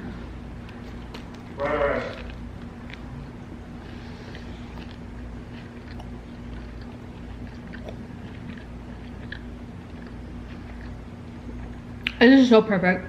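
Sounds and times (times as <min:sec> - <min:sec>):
person chewing crusty bread: 0:00.0 - 0:12.2
steady low hum: 0:00.0 - 0:13.0.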